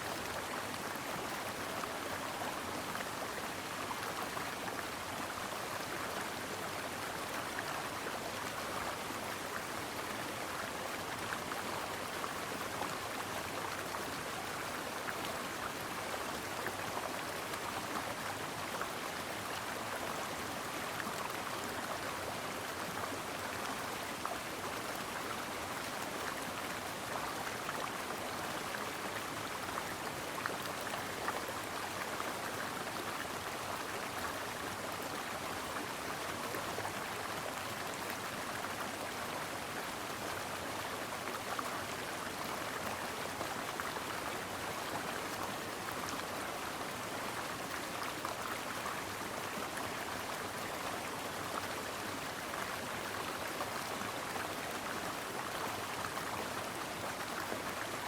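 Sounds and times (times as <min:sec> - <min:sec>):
brook babbling over rocks: 0:00.0 - 0:58.0.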